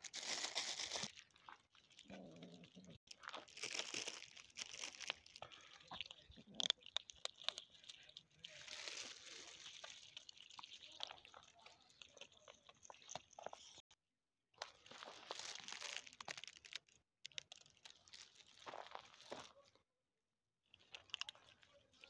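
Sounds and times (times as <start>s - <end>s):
kittens crunching dry kibble: 0.0s - 13.9s, 14.6s - 19.8s, 20.7s - 22.0s.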